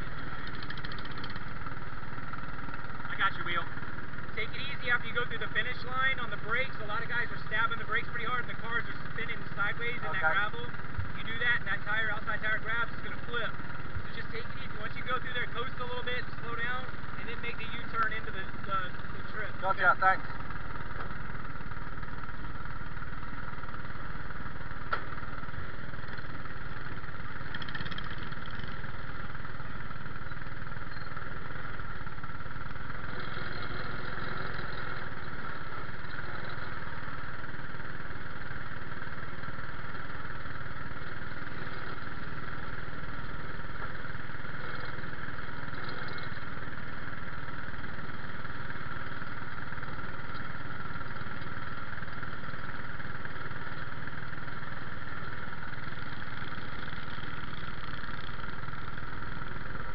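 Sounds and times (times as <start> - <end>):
racing car engine idling: 0.0 - 59.9.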